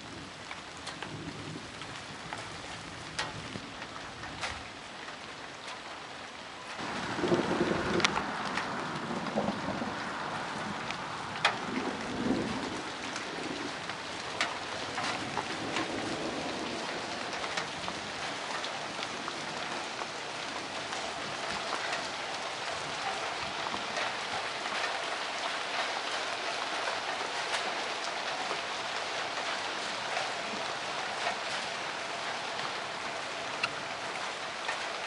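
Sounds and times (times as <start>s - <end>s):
close raindrops striking: 0.0s - 35.0s
heavy rain falling: 0.0s - 35.0s
thunder rumbling: 6.8s - 34.9s.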